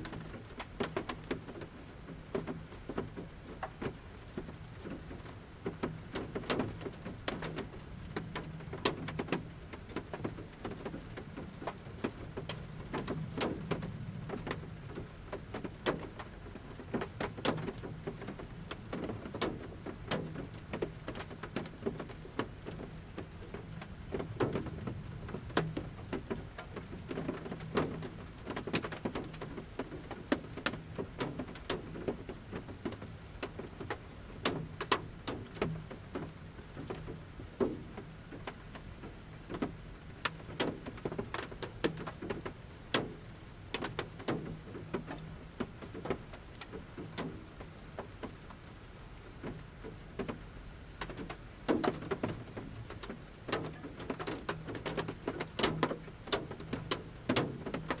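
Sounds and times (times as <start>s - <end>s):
raindrops hitting metal roof: 0.0s - 58.0s.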